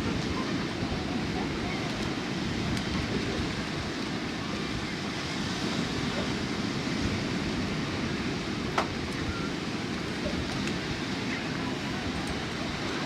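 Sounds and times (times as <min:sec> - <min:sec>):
ocean surf: 0:00.0 - 0:13.0
wind rumbling on microphone: 0:00.0 - 0:13.0.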